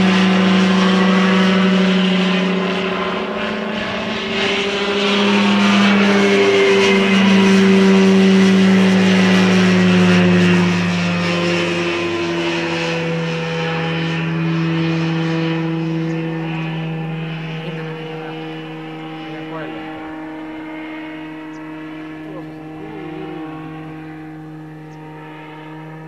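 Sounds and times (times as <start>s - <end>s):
light aircraft flying past: 0.0s - 26.0s.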